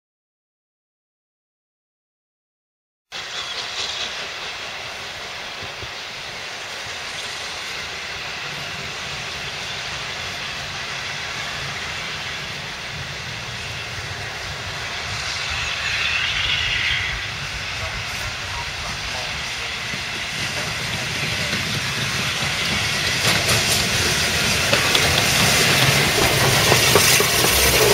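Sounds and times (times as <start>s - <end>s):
steam hissing: 3.1s - 27.9s
locomotive rumble: 3.2s - 27.9s.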